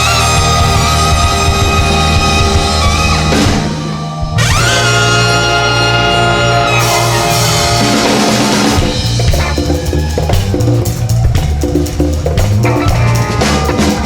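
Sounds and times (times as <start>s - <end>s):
drum-kit groove: 0.0s - 5.3s, 6.6s - 14.0s
bass line: 0.0s - 14.0s
funk band playing: 0.0s - 14.0s.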